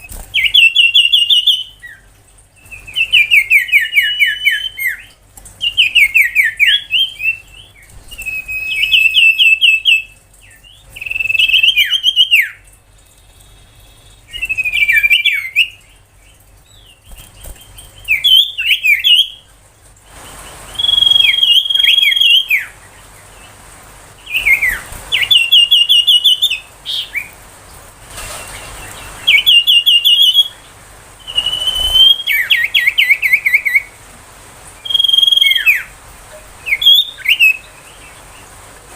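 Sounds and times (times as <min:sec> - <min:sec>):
bird singing whistled notes: 0:00.0 - 0:16.0, 0:16.7 - 0:19.5, 0:20.2 - 0:22.8, 0:24.2 - 0:27.3, 0:28.4 - 0:34.0, 0:34.8 - 0:35.9, 0:36.6 - 0:38.2.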